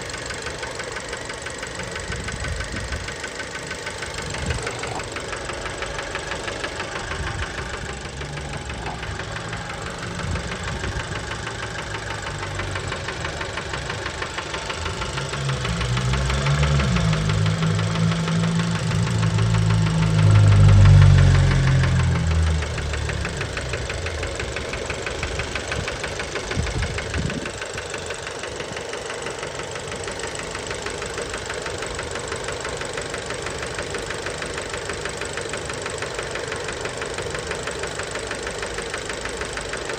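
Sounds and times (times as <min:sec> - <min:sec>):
engine knocking and rattling: 0:00.0 - 0:39.9.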